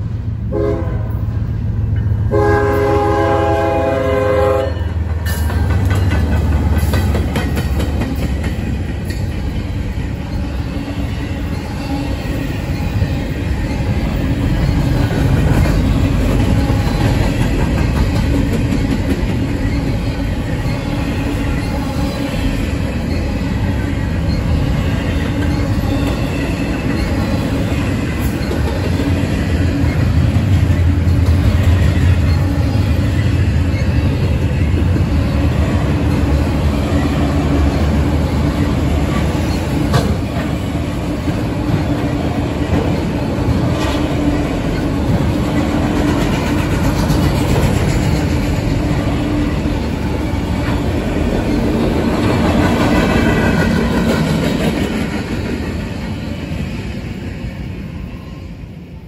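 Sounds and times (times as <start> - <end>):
freight train wheels rumbling: 0.0 - 59.0
wheels clacking over rail joints: 5.0 - 10.4, 11.9 - 56.2.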